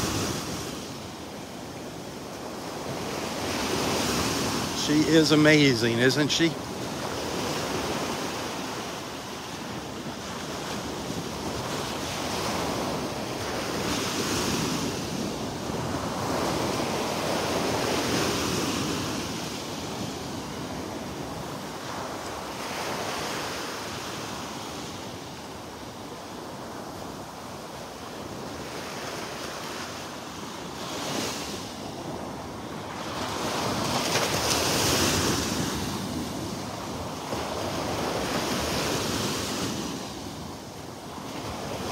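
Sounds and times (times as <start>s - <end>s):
small waves breaking on beach: 0.0s - 41.9s.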